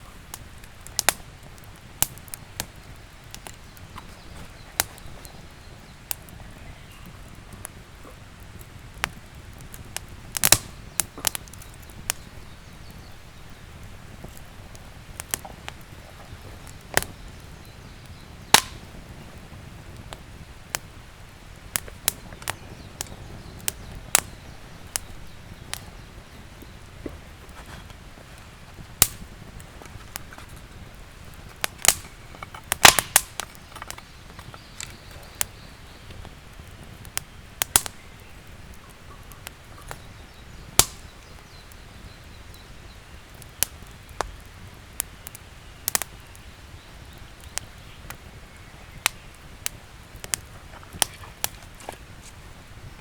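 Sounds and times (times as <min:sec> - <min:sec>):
burning wood popping and snapping: 0:00.0 - 0:53.0
campfire crackling: 0:00.0 - 0:53.0.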